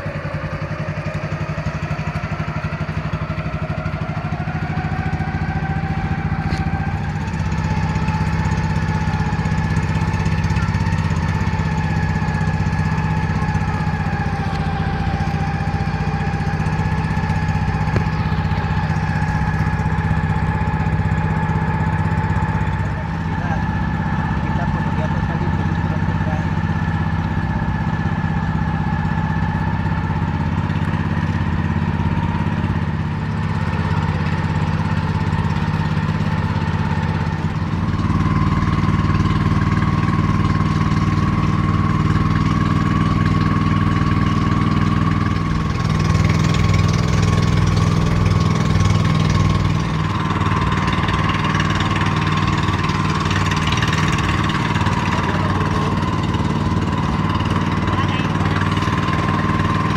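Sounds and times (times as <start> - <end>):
motor engine running: 0.0 - 59.9.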